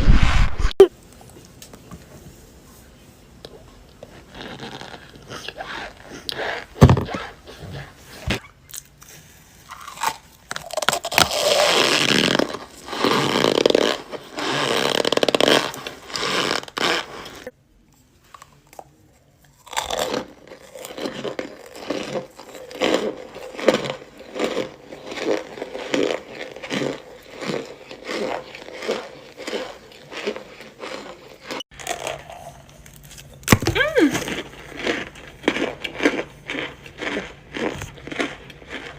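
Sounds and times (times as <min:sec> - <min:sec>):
crunchy chewing: 0:03.4 - 0:17.5, 0:18.2 - 0:38.9.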